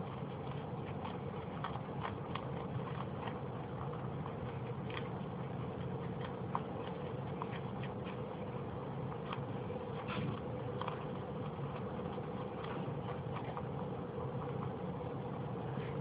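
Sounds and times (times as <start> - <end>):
rabbits grooming clicks: 0.0 - 16.0
steady background hum: 0.0 - 16.0.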